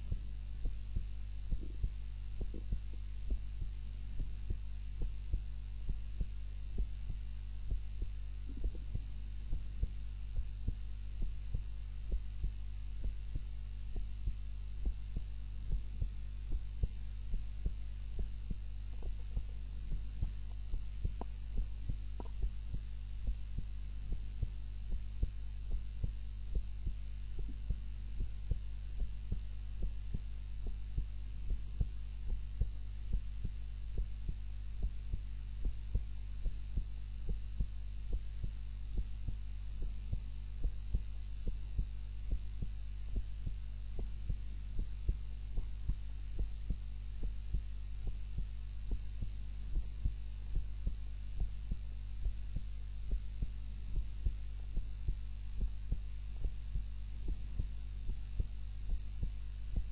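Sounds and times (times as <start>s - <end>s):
constant low hum: 0.0s - 59.9s
heartbeat: 0.0s - 59.9s.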